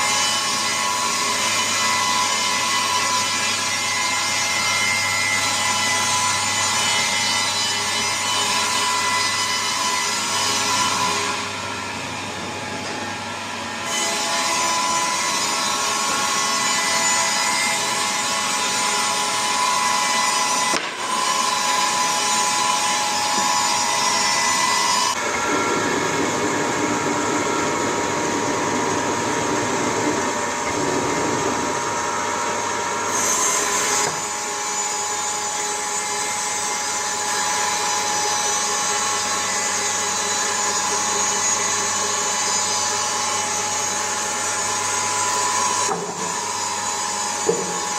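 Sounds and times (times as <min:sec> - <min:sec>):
sawmill cutting wood: 0:00.0 - 0:47.9.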